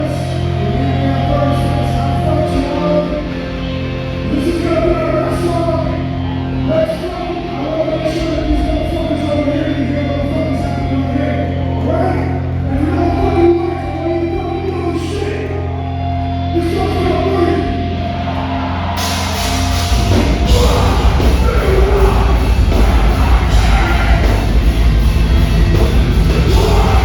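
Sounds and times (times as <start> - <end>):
live band music with singing: 0.0 - 27.0.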